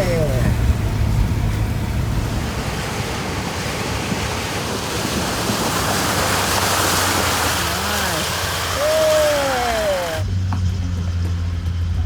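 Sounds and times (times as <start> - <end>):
river water rushing and splashing: 0.0 - 10.3
vehicle engine droning: 0.0 - 12.0.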